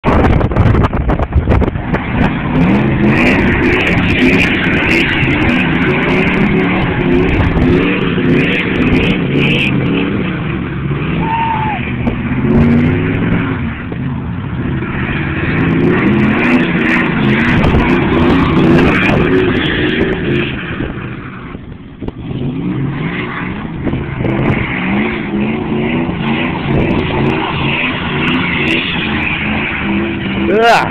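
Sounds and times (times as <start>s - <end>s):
truck engines revving: 0.0s - 30.9s.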